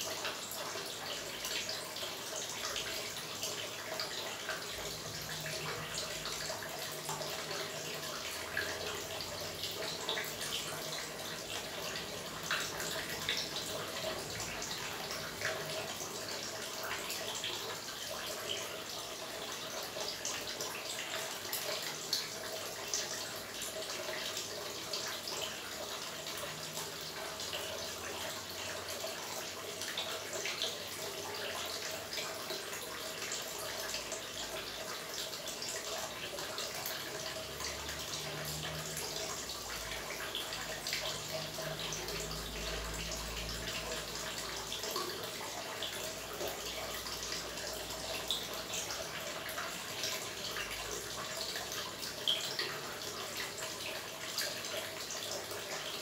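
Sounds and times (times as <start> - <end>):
water trickling into pool: 0.0 - 56.0.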